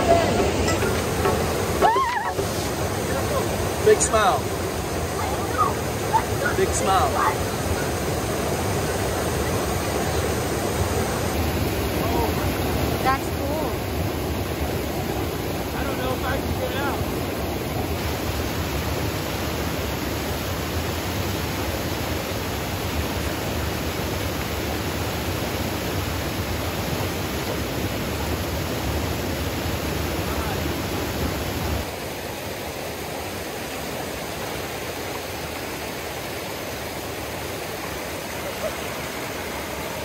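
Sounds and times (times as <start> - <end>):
creek rapids rushing: 0.0 - 40.0.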